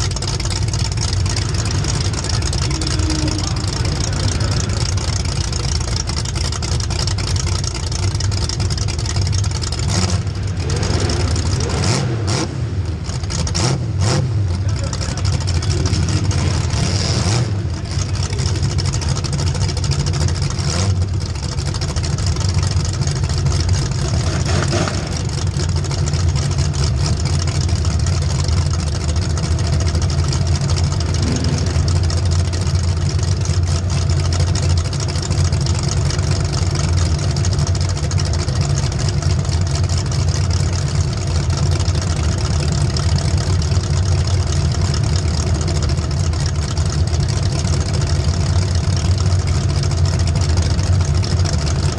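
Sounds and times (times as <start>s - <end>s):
constant rushing noise: 0.0s - 51.9s
race engine running hard: 0.0s - 51.9s.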